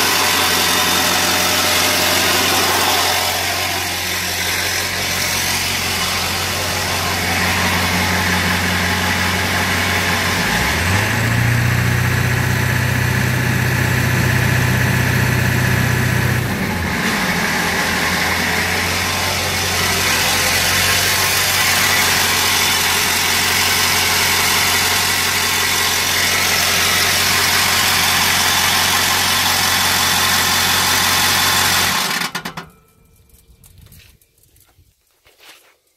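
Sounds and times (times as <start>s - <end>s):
diesel engine idling roughly: 0.0s - 32.7s.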